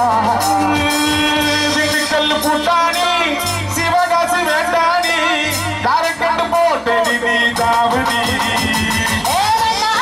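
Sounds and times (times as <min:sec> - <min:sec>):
bass guitar: 0:00.0 - 0:10.0
drums: 0:00.0 - 0:10.0
keyboard: 0:00.0 - 0:10.0
man singing lead vocal: 0:00.0 - 0:10.0.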